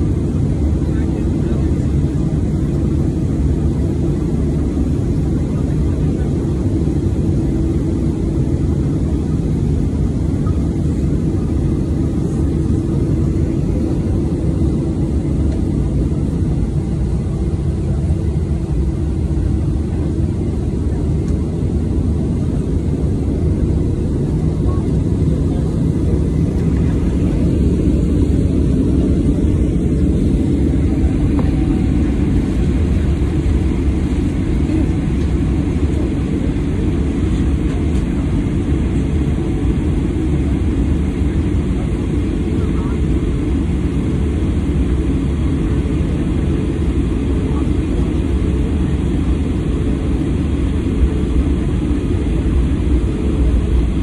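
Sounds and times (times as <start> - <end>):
jet engines low rumble: 0.0 - 54.0.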